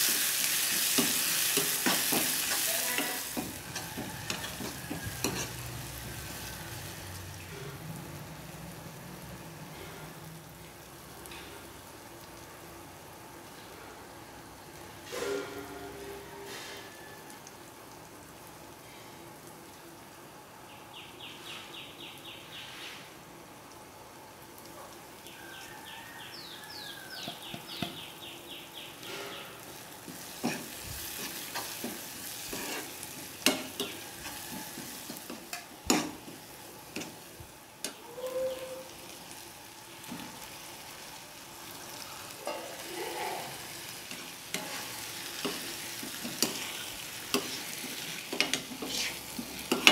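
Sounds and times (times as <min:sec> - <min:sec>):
masala sizzling in hot oil: 0:00.0 - 0:49.9.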